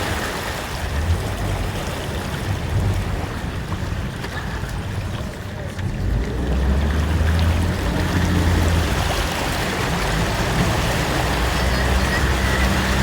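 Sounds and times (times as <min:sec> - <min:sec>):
heavy rain and running water: 0:00.0 - 0:13.0.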